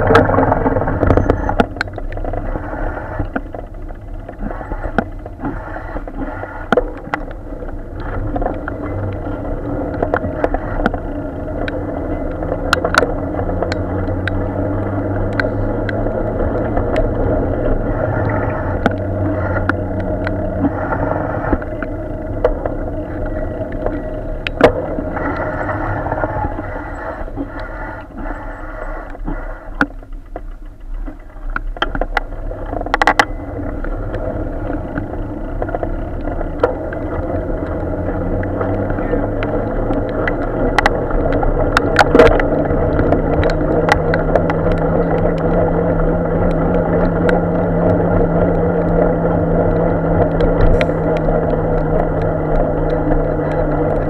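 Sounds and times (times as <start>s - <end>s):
tyres on wet road: 0.0s - 54.0s
vehicle engine hum: 0.0s - 54.0s
wind rumble: 0.0s - 54.0s.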